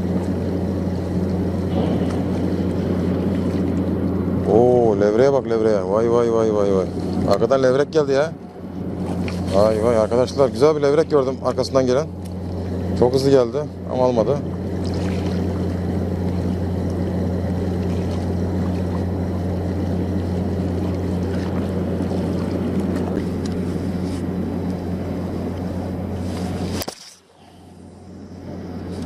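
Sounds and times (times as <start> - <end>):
low motor drone: 0.0 - 29.0.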